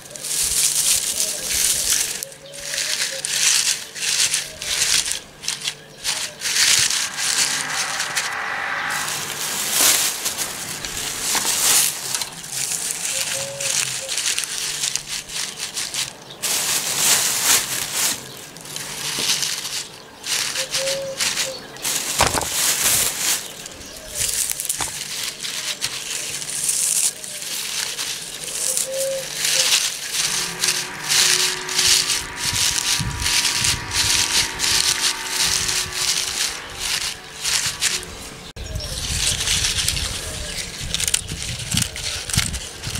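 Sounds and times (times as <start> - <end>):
straw rustling crackly: 0.0 - 42.9.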